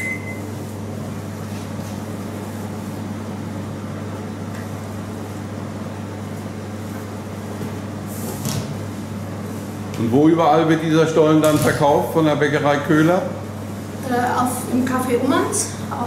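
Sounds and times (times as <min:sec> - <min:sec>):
low electrical machine hum: 0:00.0 - 0:16.0.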